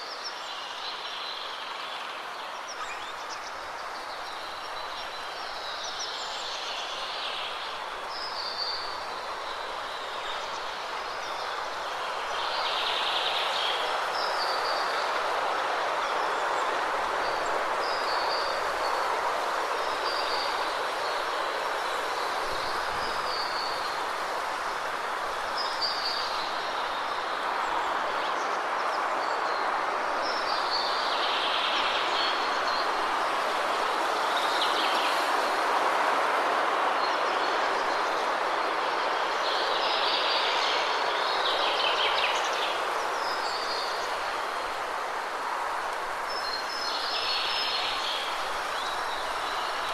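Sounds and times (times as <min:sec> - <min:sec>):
waterfall rushing: 0:02.0 - 0:49.9.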